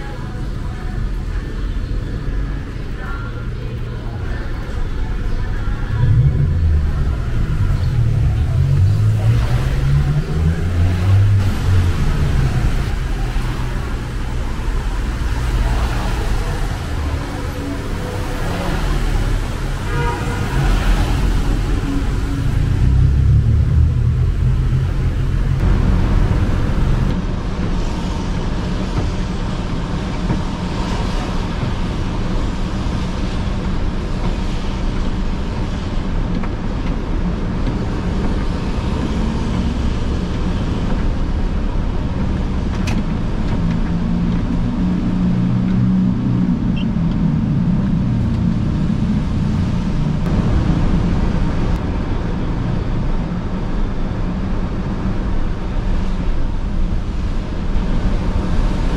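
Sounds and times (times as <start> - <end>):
vehicle engine and tyre rumble: 0.0 - 58.9.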